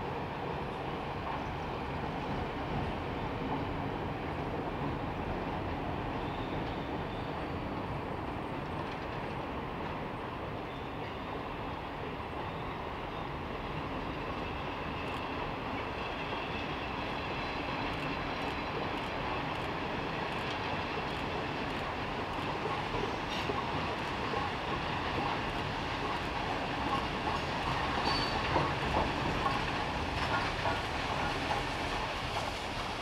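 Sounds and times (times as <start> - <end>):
train wheels rumbling on bridge: 0.0 - 33.0.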